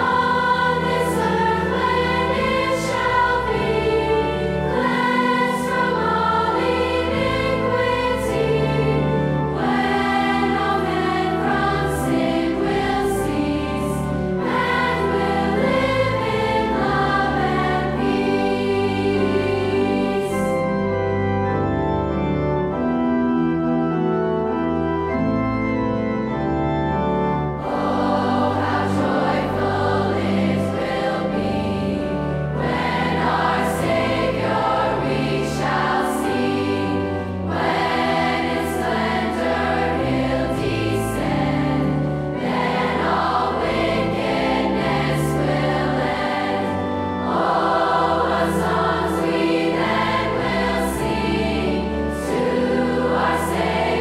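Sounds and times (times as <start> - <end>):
girls' choir singing a hymn: 0.0 - 21.2, 27.5 - 54.0
pipe organ: 0.0 - 54.0.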